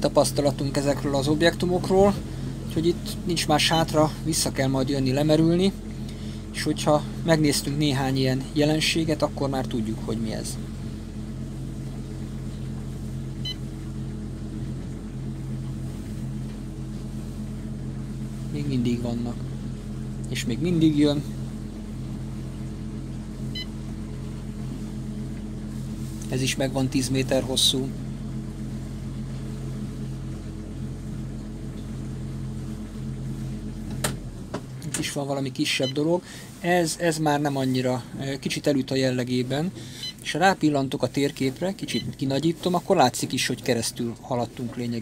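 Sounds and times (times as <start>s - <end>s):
boat motor humming: 0.0s - 45.0s.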